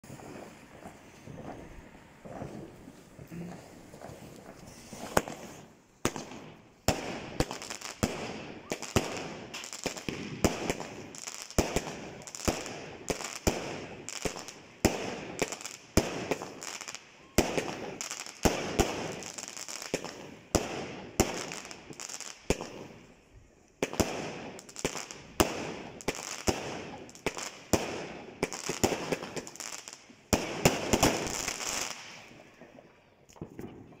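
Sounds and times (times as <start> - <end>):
fireworks bangs: 0.0 - 23.1, 23.8 - 34.0.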